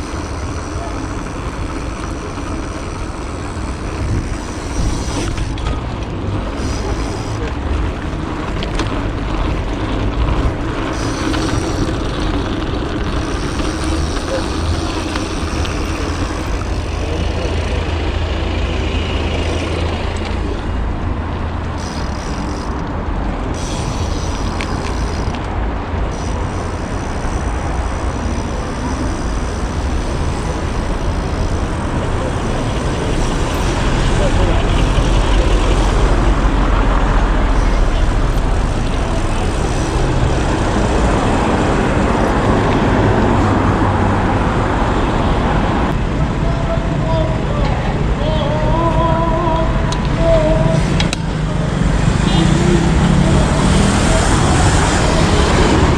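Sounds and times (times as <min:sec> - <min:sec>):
city street traffic: 0:00.0 - 0:55.9
engine drone: 0:00.0 - 0:55.9
tyres on road: 0:00.0 - 0:55.9.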